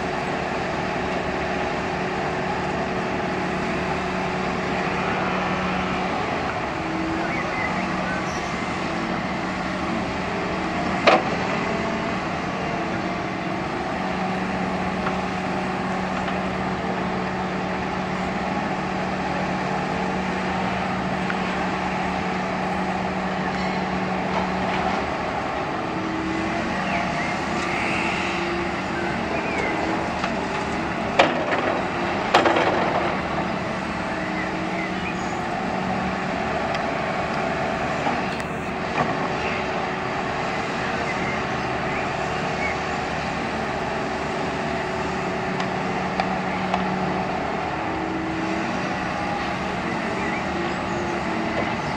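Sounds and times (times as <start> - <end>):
excavator diesel engines running: 0.0 - 51.9.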